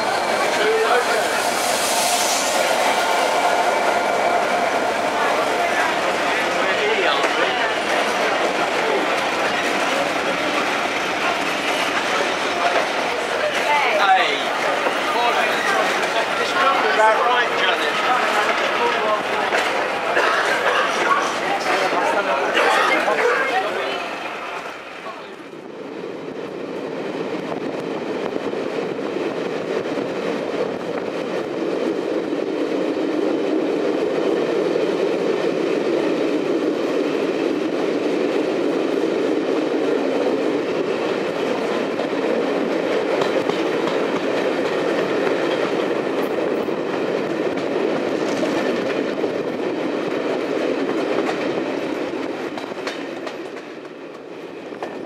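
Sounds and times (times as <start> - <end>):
train rumbling along rails: 0.0 - 55.0.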